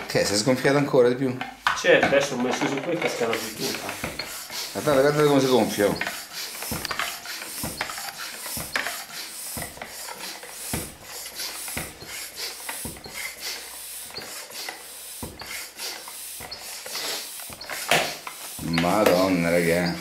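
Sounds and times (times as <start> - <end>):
floor pump strokes: 0.0 - 20.0.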